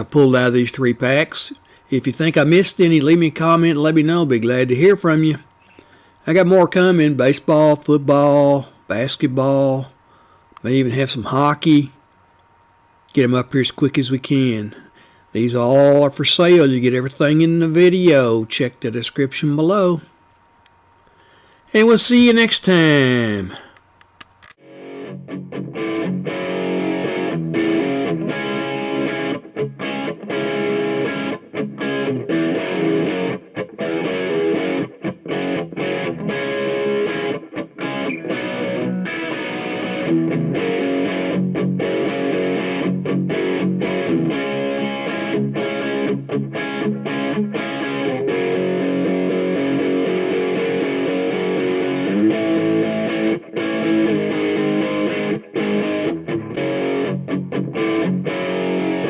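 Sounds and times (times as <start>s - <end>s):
distorted electric guitar music: 0.0s - 59.0s.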